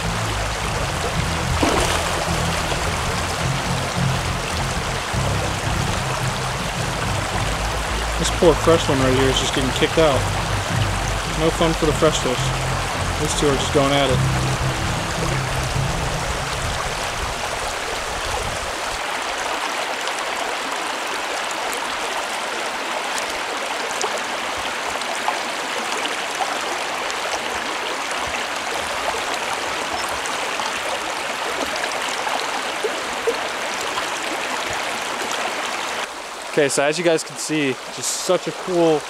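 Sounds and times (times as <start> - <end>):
creek water rushing: 0.0 - 39.0.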